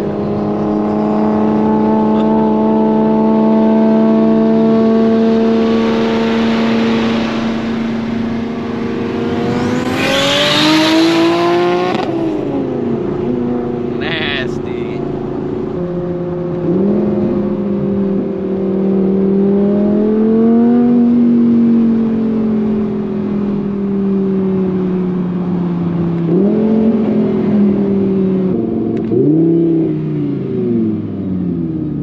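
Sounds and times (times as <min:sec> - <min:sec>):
sports car engine droning: 0:00.0 - 0:32.0.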